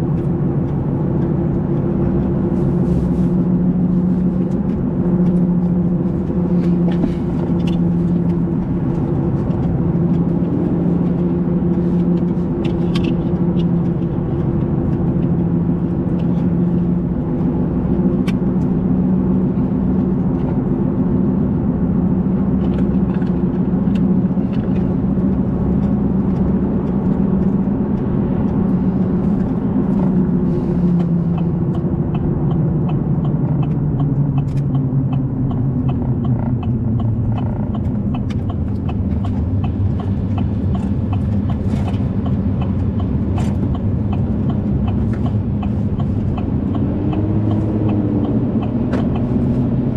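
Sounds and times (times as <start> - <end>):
road rumble: 0.0 - 49.9
vehicle engine drone: 0.0 - 49.9.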